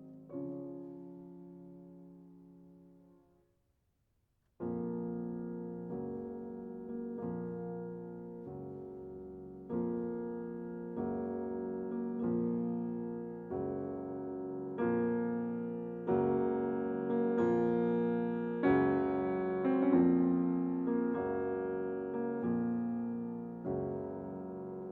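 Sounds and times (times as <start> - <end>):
slow piano chords: 0.0 - 3.2, 4.6 - 24.9.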